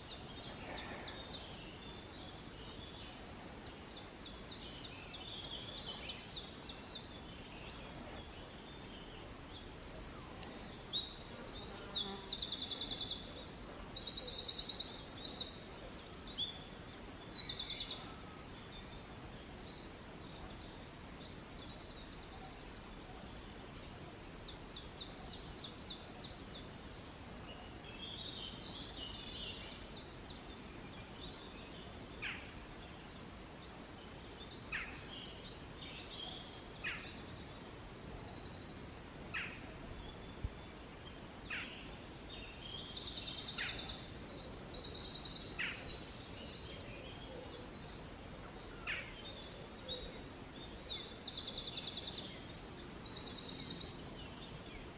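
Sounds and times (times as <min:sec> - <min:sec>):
songbirds chirping and trilling: 0:00.0 - 0:54.9
steady background hiss: 0:00.0 - 0:54.9.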